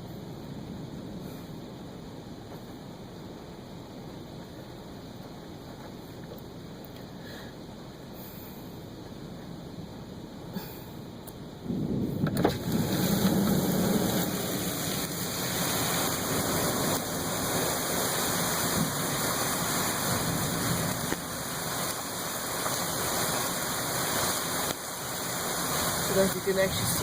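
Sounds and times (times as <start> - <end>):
low thunder rumble: 0.0 - 6.8, 8.9 - 27.0
heavy rain in strong wind: 0.0 - 27.0.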